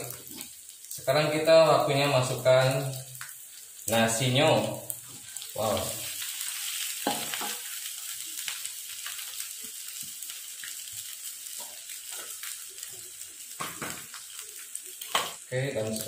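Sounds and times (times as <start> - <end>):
spice paste sizzling in wok: 0.0 - 16.0.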